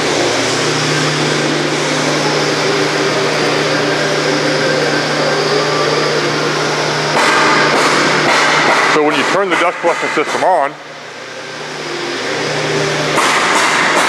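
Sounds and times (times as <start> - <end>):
vacuum motor rushing hum: 0.0 - 14.0.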